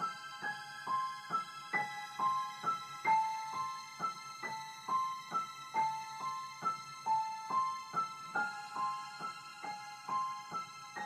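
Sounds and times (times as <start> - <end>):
simple keyboard melody: 0.0 - 11.0.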